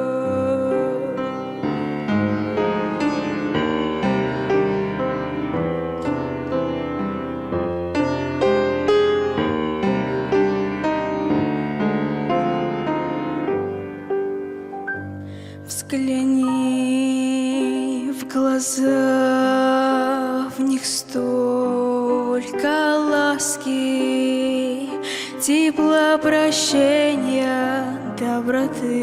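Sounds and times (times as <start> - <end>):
piano playing: 0.0 - 29.0.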